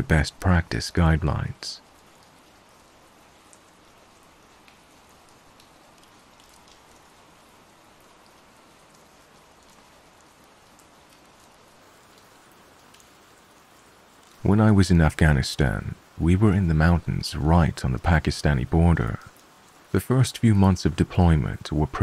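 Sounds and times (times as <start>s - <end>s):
rain hiss: 0.0s - 22.0s
soft raindrop ticks: 0.0s - 22.0s.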